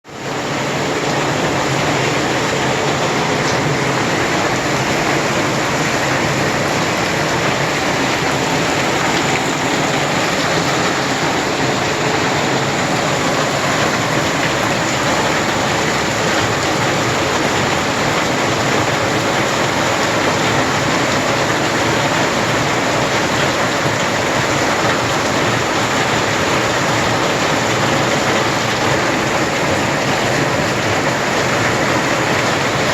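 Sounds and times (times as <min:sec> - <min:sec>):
heavy rain downpour: 0:00.0 - 0:32.9.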